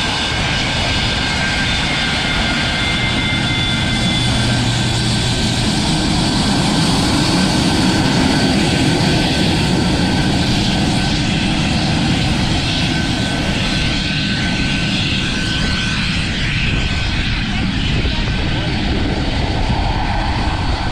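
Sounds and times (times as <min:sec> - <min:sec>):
high jet whine: 0:00.0 - 0:20.9
jet engine roar: 0:00.0 - 0:20.9.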